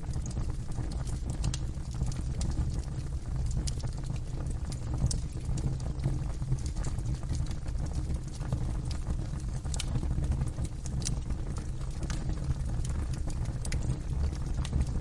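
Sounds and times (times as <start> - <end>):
crackles and pops of burning wood: 0.0 - 15.0
low rumble of flames: 0.0 - 15.0.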